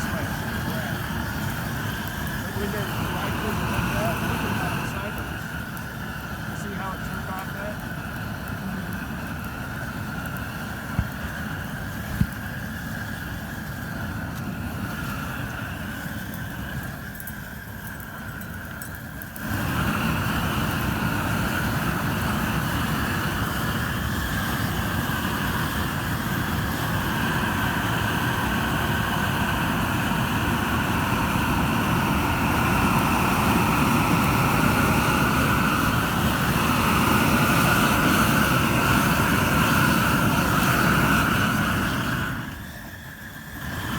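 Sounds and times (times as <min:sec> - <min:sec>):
propane burners roaring: 0:00.0 - 0:43.9.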